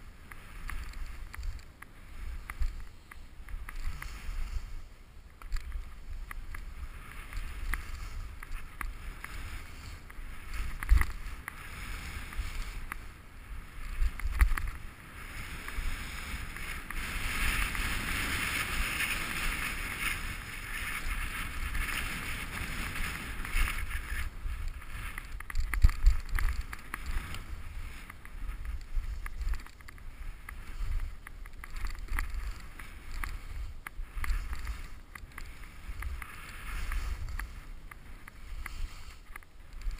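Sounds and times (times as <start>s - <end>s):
low thumps of skis over bumps: 0.0s - 39.9s
skis scraping over snow: 0.0s - 39.9s.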